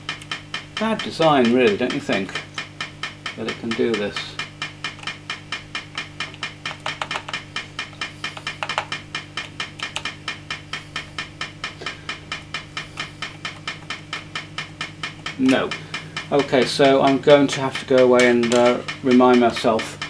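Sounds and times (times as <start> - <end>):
amp ticking through speaker: 0.0 - 20.0
low amp hum: 0.0 - 20.0.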